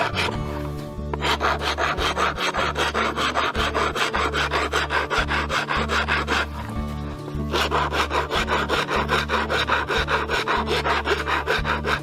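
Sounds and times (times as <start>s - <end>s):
wood rasp filing wood: 0.0s - 12.0s.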